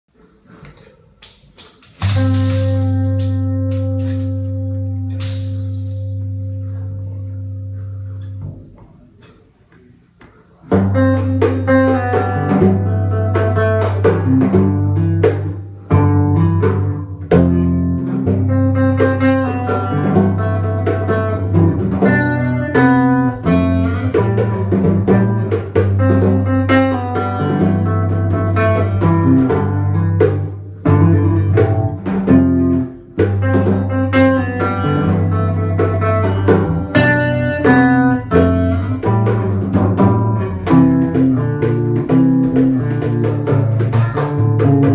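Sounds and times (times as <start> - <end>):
drum kit: 0.5 - 9.4, 10.6 - 44.9
plucked guitar: 0.5 - 9.4, 10.6 - 44.9
bass holding low notes: 2.0 - 9.2, 10.7 - 44.9.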